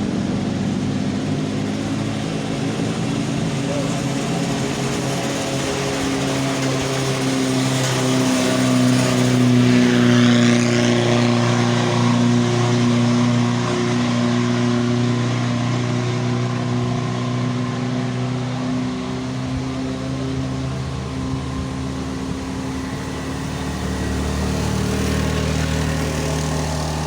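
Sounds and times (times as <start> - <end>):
vehicle engine droning: 0.0 - 27.0.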